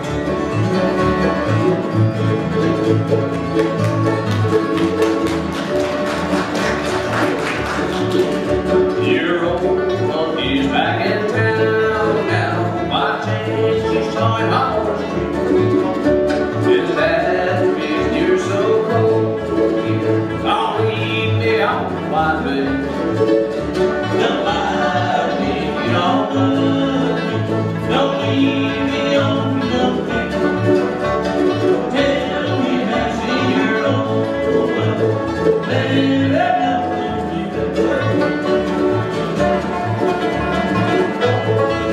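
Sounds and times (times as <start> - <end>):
banjo rolls: 0.0 - 41.9
mandolin: 0.0 - 41.9
plucked upright bass: 0.0 - 41.9
strummed acoustic guitars: 0.0 - 41.9.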